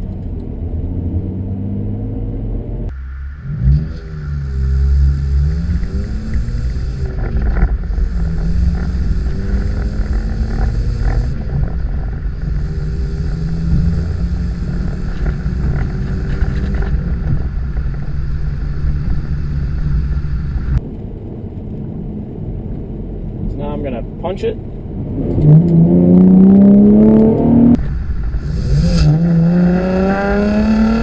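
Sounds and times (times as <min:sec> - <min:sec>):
car exhaust at low rpm: 0:00.0 - 0:31.0.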